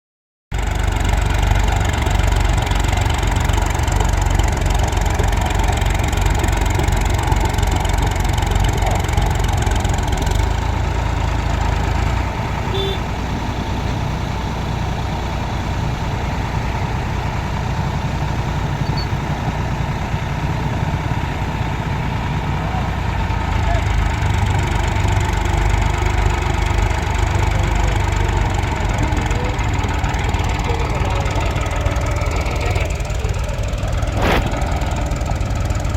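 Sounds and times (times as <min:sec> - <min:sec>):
tractor diesel engine running: 0:00.5 - 0:35.9.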